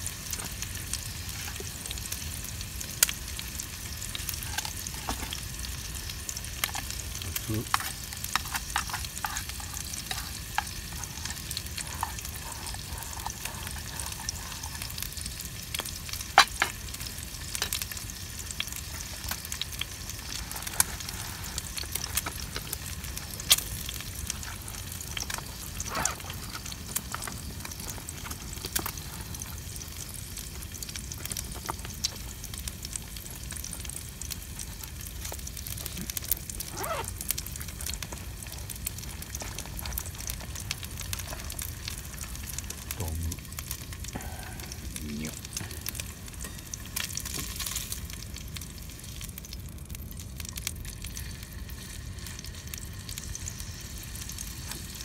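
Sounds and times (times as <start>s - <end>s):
food sizzling in a pan: 0.0s - 55.0s
sharp pops and crackles: 0.2s - 51.0s.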